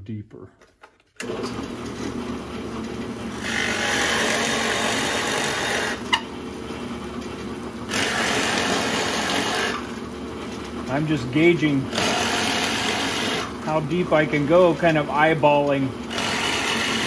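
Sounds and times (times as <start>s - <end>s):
drill press motor hum: 1.2s - 17.0s.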